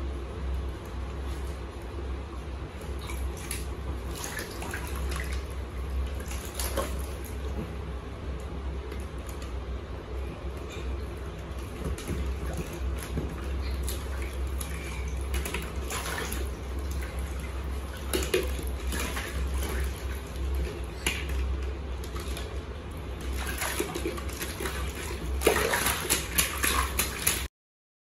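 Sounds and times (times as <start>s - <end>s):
steady low hum: 0.0s - 27.5s
water splashing in a paddling pool: 1.0s - 8.0s, 10.8s - 27.5s.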